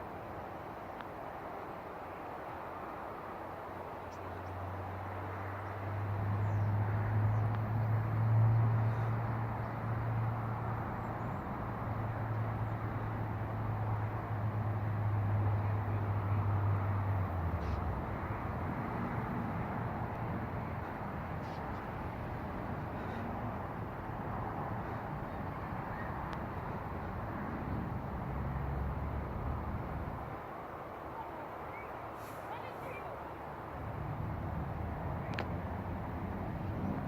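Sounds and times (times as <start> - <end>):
outdoor background noise: 0.0 - 37.0
low engine hum: 4.1 - 37.0.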